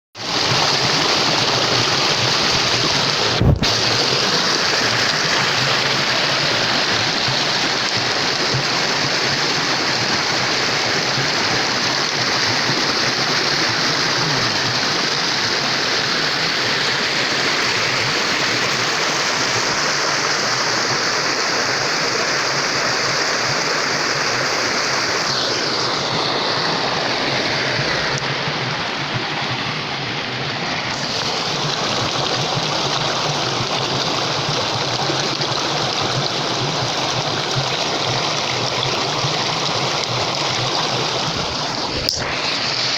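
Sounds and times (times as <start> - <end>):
flowing water rushing: 0.2 - 42.9.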